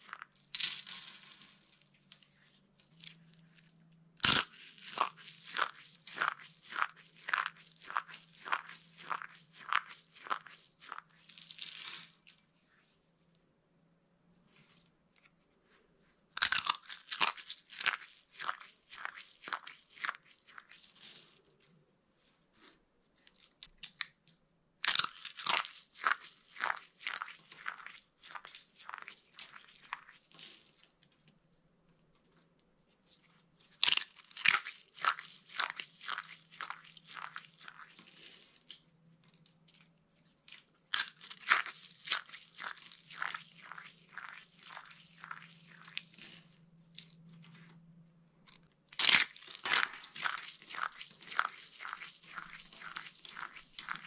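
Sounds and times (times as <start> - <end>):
dry soap crunching: 0.0 - 12.5, 14.5 - 54.0.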